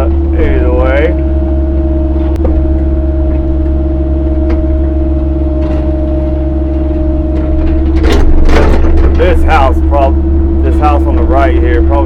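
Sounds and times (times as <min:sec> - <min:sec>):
excavator diesel engine drone: 0:00.0 - 0:12.0
hydraulic whine: 0:00.0 - 0:12.0.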